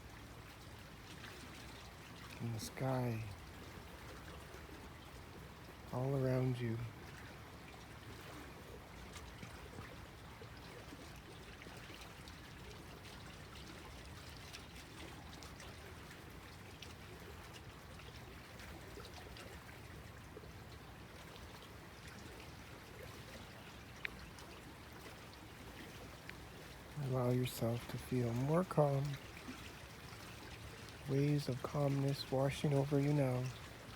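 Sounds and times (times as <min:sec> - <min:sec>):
small waves lapping at shore: 0:00.0 - 0:33.9.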